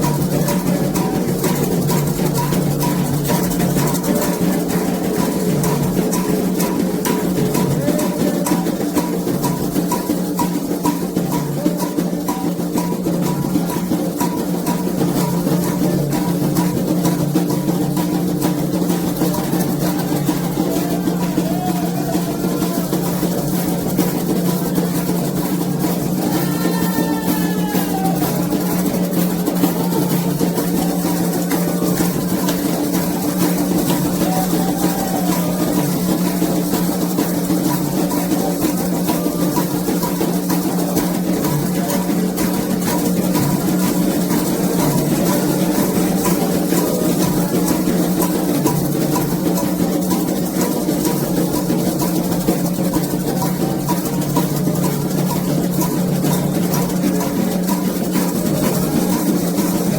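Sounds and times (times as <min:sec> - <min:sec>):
hand drums and percussion: 0:00.0 - 0:59.9.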